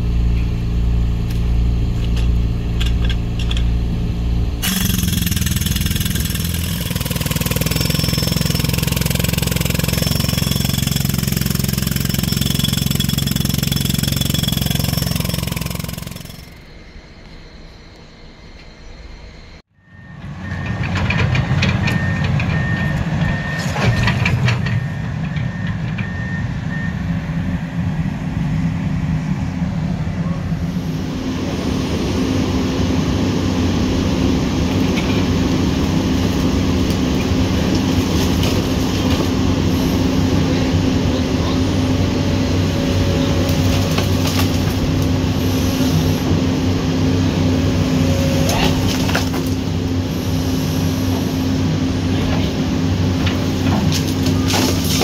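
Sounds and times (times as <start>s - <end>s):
excavator diesel engine: 0.0s - 18.0s, 19.6s - 55.0s.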